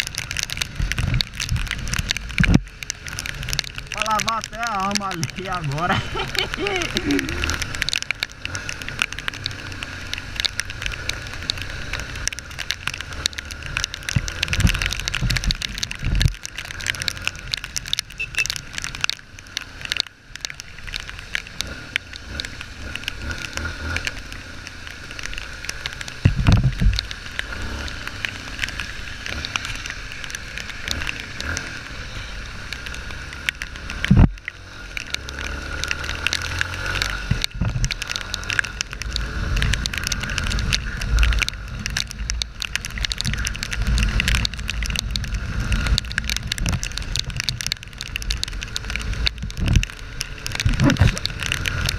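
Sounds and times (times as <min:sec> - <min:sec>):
motorcycle engine rumble: 0:00.0 - 0:51.9
raindrops and wind on camera: 0:00.0 - 0:51.9.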